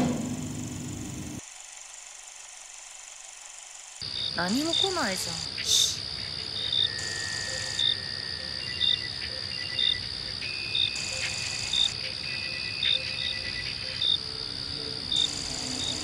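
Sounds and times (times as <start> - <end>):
faint pulsing insect chirps: 0.4 - 16.0
short insect chirp: 0.4 - 16.0
insect high trill: 0.6 - 16.0.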